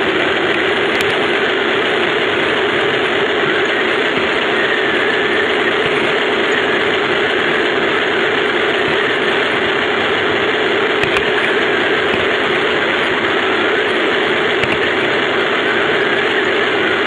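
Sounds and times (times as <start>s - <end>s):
faint motor whine: 0.0s - 17.0s
toy tank drivetrain and tracks: 0.0s - 17.0s.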